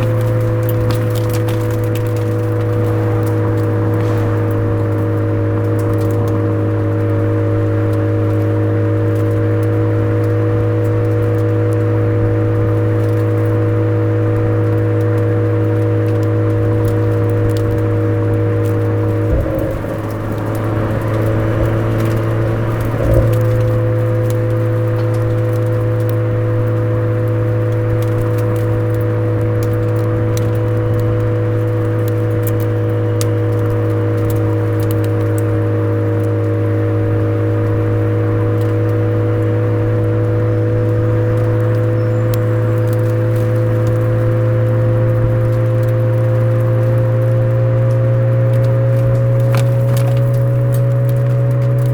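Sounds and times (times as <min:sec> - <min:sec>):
car exhaust droning: 0:00.0 - 0:51.9.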